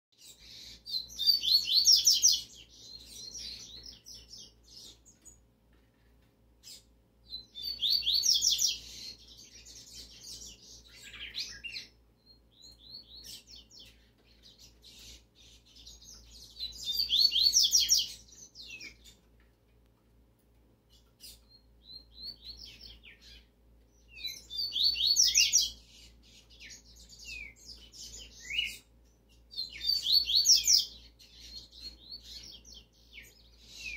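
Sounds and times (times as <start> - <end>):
bird singing warbling song: 0.1 - 19.9, 20.7 - 33.9
bird chirps and whistled notes: 0.2 - 5.4, 6.6 - 19.2, 21.2 - 28.9, 29.5 - 33.9.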